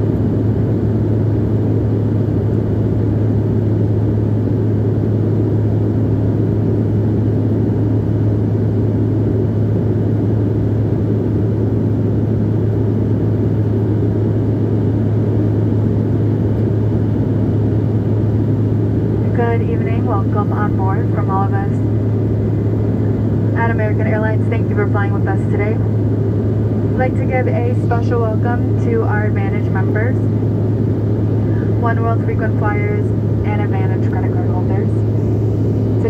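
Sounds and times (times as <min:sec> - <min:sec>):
jet cabin engine drone: 0:00.0 - 0:36.0.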